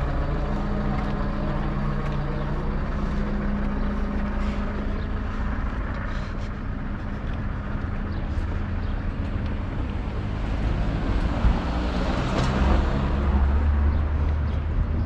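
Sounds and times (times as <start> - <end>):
steady low rumble: 0.0 - 15.0
vehicle passing: 0.0 - 15.0.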